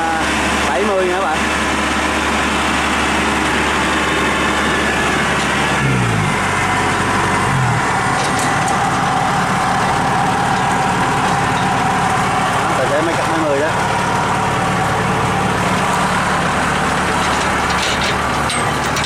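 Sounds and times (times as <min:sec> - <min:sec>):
diesel engine running: 0:00.0 - 0:19.0
steady machine whine: 0:00.0 - 0:19.0.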